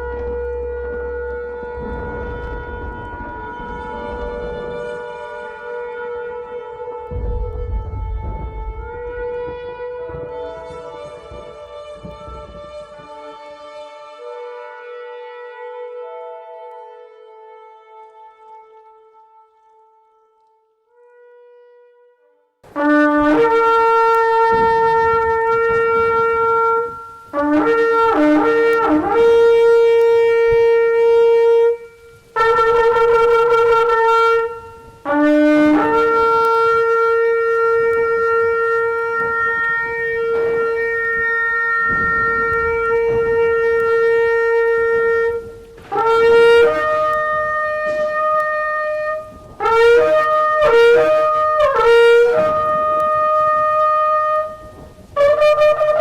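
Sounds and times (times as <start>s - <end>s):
shofar blasts: 0.0s - 56.0s.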